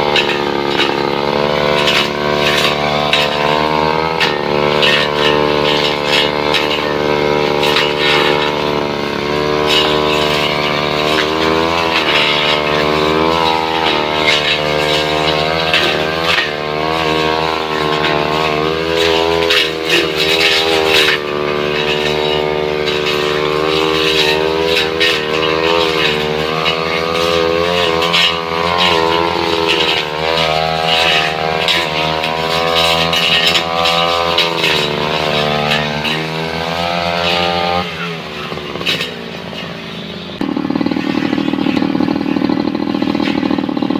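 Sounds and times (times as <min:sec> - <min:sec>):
brush cutter engine running hard: 0:00.0 - 0:43.9.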